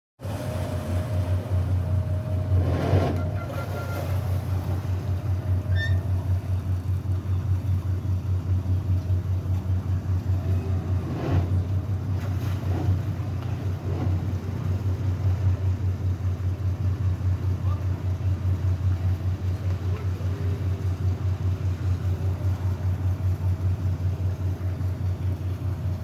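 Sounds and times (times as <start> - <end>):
boat diesel engines throbbing: 0.2 - 26.0.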